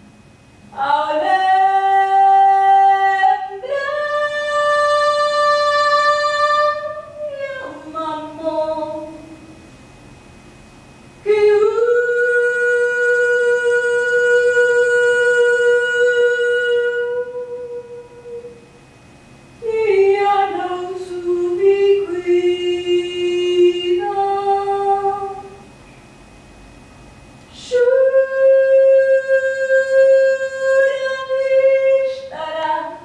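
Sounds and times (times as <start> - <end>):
person singing unaccompanied: 0.7 - 9.6, 11.2 - 18.7, 19.6 - 25.6, 27.5 - 33.0.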